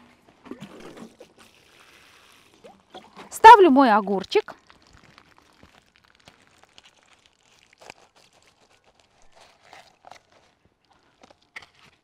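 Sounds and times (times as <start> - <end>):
faint rustles of handling soil: 0.0 - 12.0.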